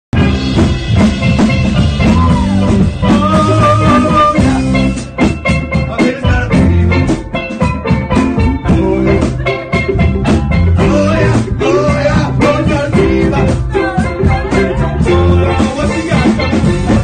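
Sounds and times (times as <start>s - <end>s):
live band with steel pan: 0.2s - 17.0s.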